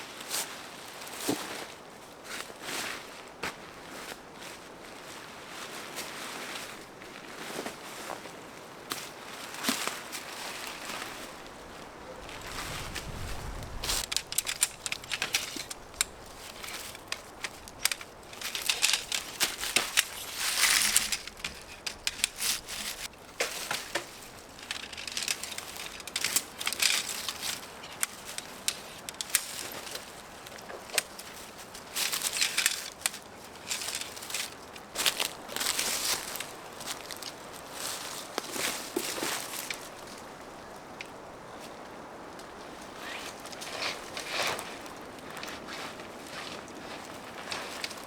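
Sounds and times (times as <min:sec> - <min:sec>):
snow and brush crunching: 0:00.2 - 0:41.0.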